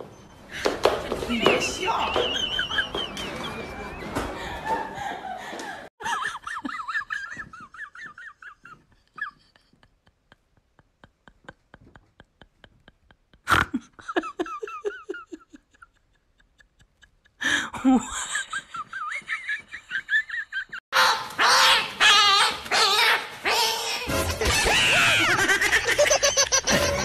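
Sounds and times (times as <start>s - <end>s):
people laughing: 1.3s - 20.8s, 24.1s - 27.0s.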